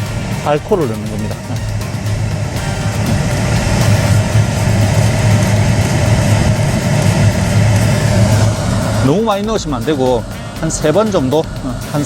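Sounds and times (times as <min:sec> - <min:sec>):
car heater blower fan: 0:00.0 - 0:12.0.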